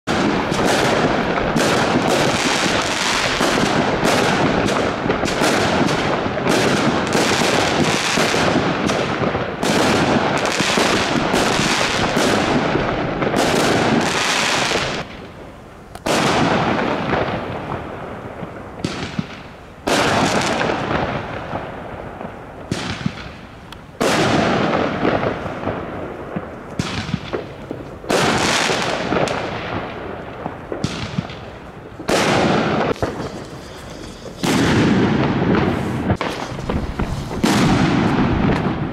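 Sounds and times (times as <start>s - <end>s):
fireworks bursting: 0.0s - 38.9s.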